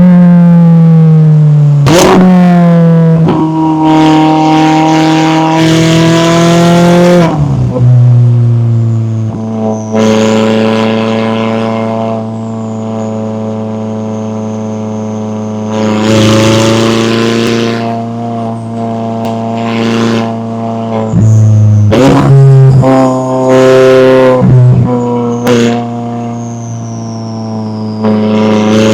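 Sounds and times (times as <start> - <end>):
sports car engine running: 0.0 - 28.9.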